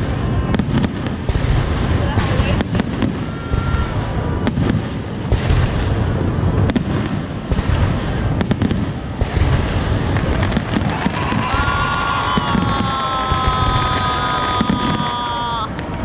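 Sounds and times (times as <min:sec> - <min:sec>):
fireworks booming: 0:00.0 - 0:16.0
fireworks cracks: 0:00.0 - 0:16.0.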